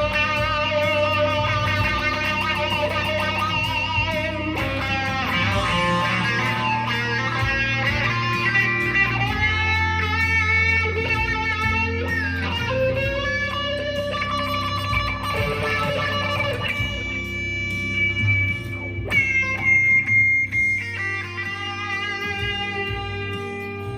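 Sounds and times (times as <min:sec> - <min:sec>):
electric guitar with wah: 0:00.0 - 0:23.9.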